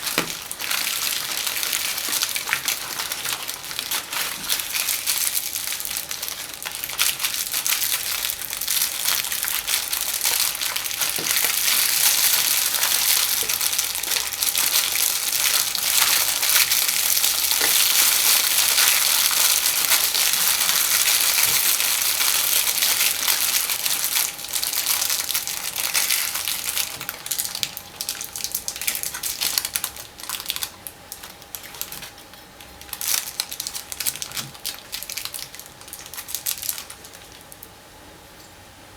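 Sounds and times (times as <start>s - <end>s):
candy wrappers crinkling: 0.0s - 37.7s.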